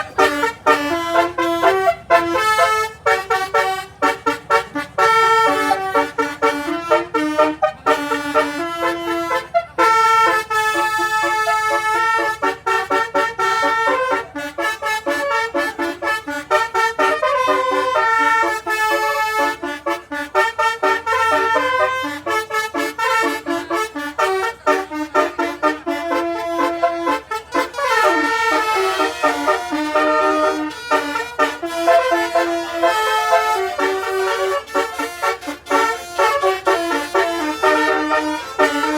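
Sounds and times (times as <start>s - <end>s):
bus multi-tone horn tune: 0.0s - 38.9s.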